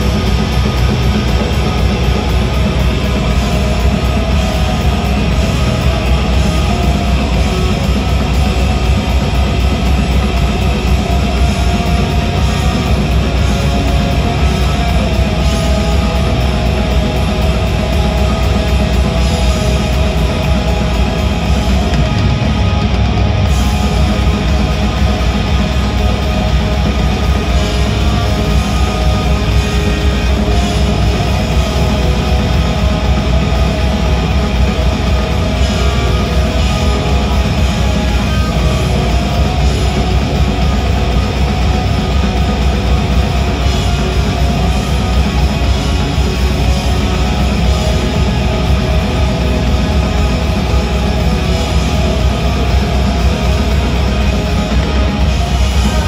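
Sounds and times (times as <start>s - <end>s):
metal band playing live: 0.0s - 56.0s.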